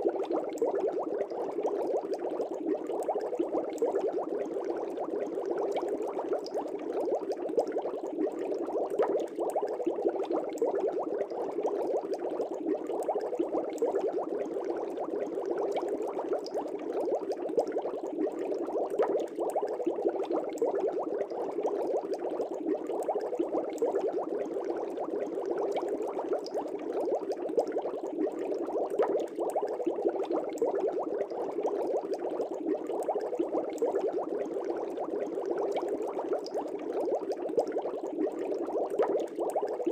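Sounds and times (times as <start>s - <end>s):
aquarium air bubbles bubbling: 0.0s - 39.9s.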